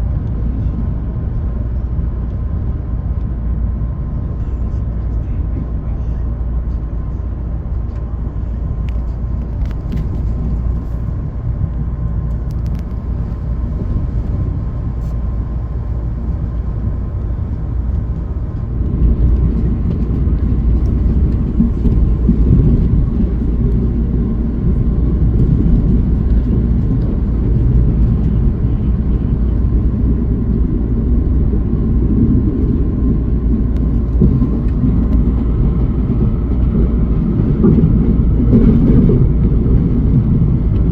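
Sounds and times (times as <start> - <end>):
train rumble from on board: 0.0 - 40.9.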